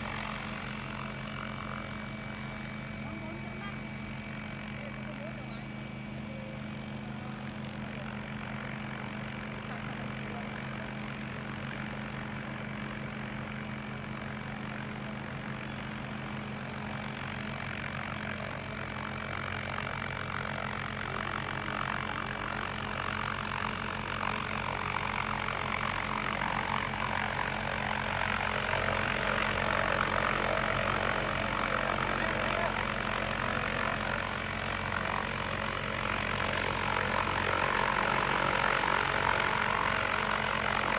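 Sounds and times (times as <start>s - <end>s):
helicopter motor and rotor hum: 0.0s - 40.9s.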